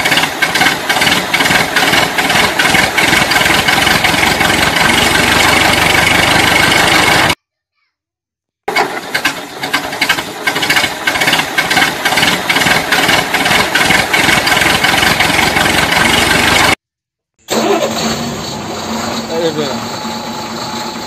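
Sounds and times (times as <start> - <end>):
steady engine hum: 0.0 - 7.4, 8.7 - 16.8, 17.5 - 21.0
tractor engine pulsing: 0.0 - 7.4, 8.7 - 16.8, 17.4 - 21.0.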